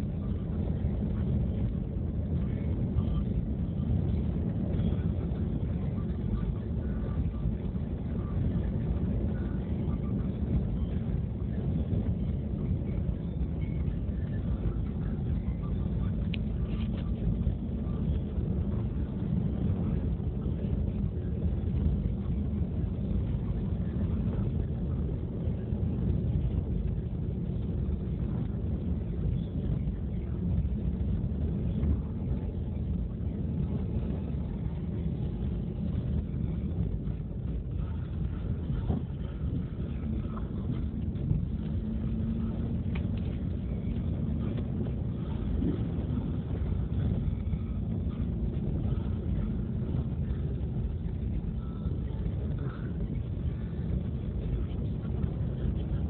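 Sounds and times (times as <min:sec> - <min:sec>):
car driving on dirt road: 0:00.0 - 0:56.0.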